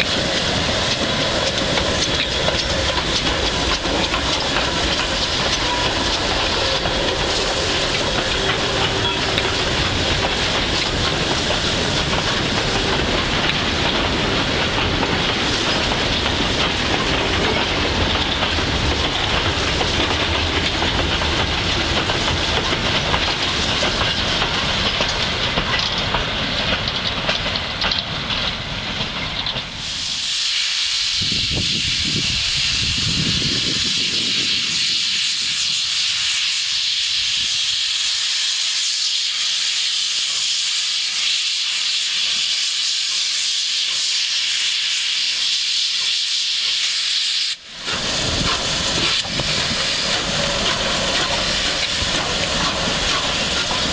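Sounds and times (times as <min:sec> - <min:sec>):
steam venting hiss: 0:00.0 - 0:29.0, 0:29.6 - 0:53.9
steam locomotive rumbling past: 0:00.0 - 0:53.9.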